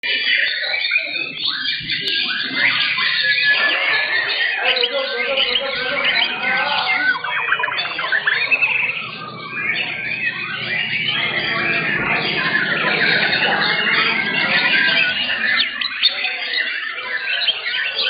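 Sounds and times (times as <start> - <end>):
songbirds singing trills and whistles: 0.0 - 18.0.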